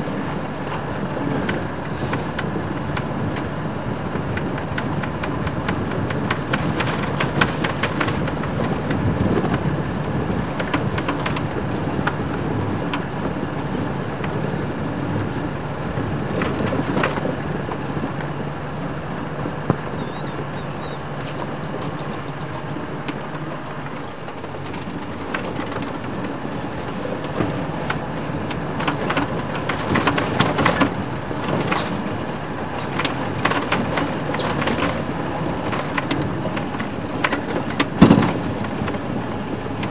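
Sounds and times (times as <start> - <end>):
vehicle engine running: 0.0 - 39.9
vehicle knocks and rattles: 0.0 - 39.9.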